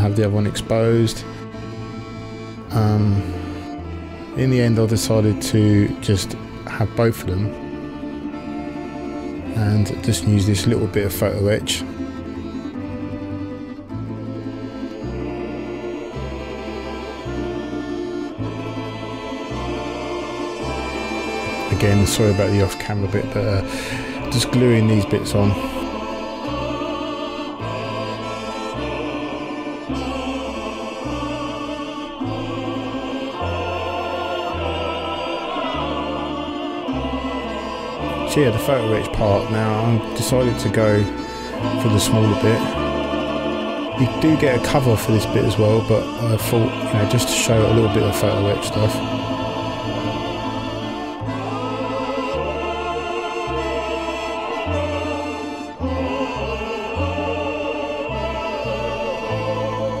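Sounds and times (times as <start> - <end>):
balalaika ensemble folk music: 0.0 - 60.0
deep sustained bass notes: 0.0 - 60.0.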